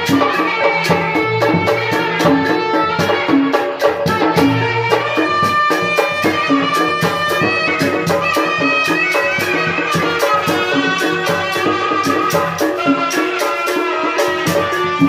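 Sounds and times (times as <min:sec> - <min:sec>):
held melody notes: 0:00.0 - 0:15.0
quick steady drumbeat: 0:00.0 - 0:15.0.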